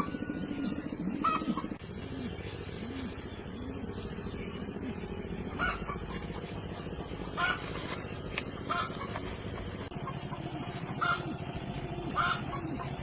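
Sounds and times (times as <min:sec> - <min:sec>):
chickens clucking: 0:01.2 - 0:03.5, 0:04.3 - 0:13.0.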